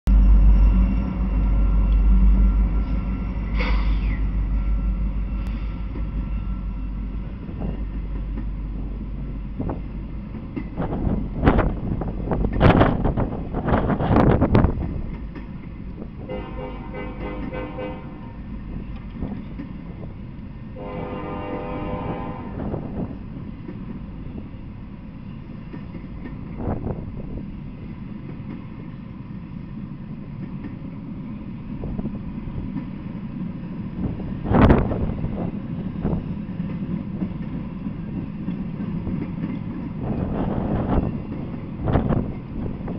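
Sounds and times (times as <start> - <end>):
train wheels rumbling on rail: 0.1 - 42.9.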